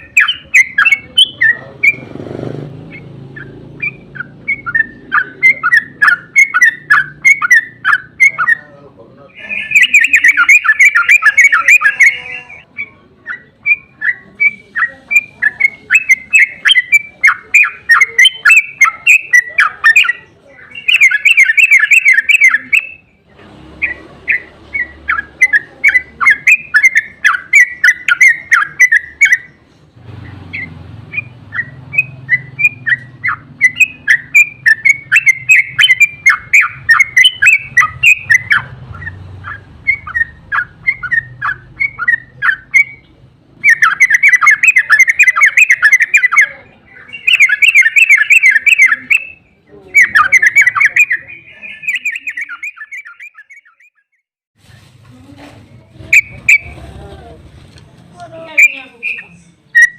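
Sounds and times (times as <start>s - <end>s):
bird chirping song: 0.0s - 54.2s, 56.0s - 57.2s, 58.3s - 59.9s
rapid bird song run: 0.0s - 54.3s, 56.0s - 57.1s, 58.3s - 59.9s.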